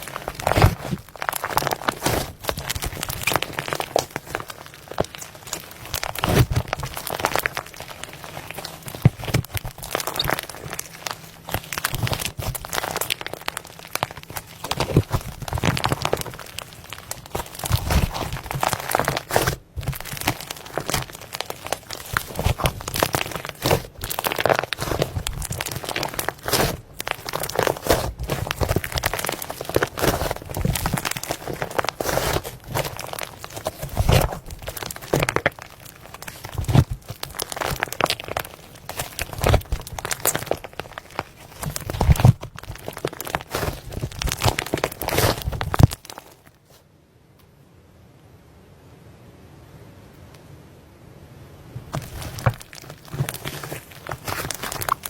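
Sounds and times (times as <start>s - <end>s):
slime squeezed by hand crackling: 0.0s - 46.8s, 51.9s - 55.0s.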